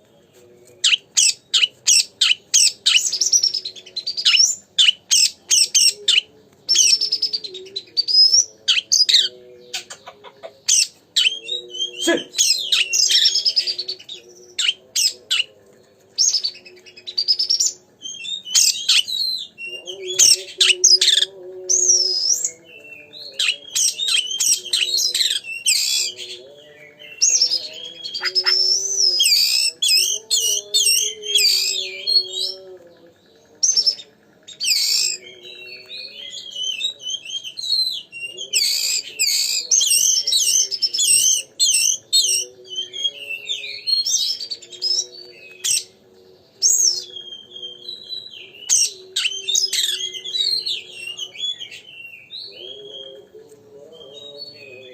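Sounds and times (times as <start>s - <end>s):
magpie-robin singing: 0.0s - 54.9s.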